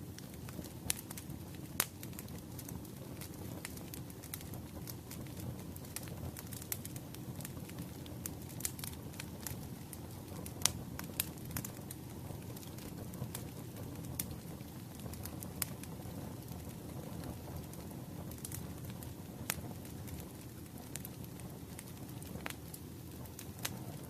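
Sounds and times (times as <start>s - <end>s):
crackles and pops of burning logs: 0.0s - 24.0s
rumble of flames: 0.0s - 24.0s.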